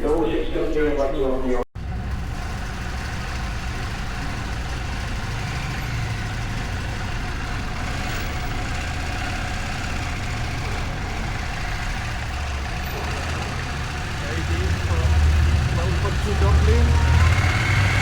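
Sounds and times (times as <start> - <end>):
ferry engines droning: 1.8 - 18.0.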